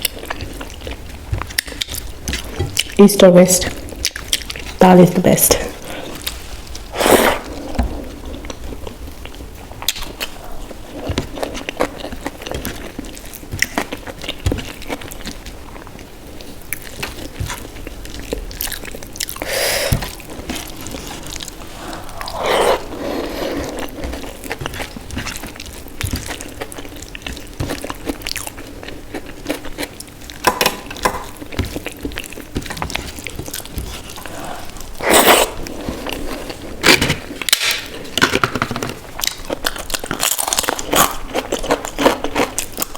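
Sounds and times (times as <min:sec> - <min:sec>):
chewing food: 0:00.0 - 0:04.8, 0:05.8 - 0:42.9.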